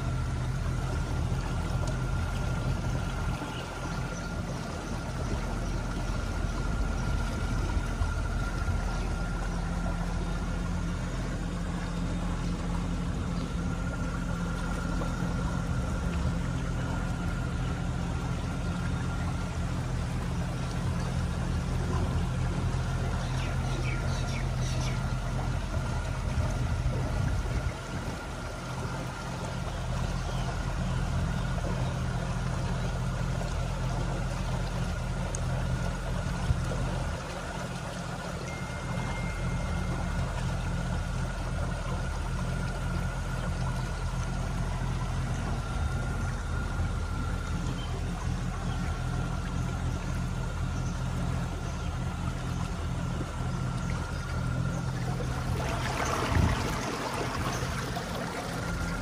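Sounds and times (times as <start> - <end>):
boat motor humming: 0.0 - 59.0
faint steady whine: 0.0 - 59.0
water washing along hull: 0.0 - 59.0.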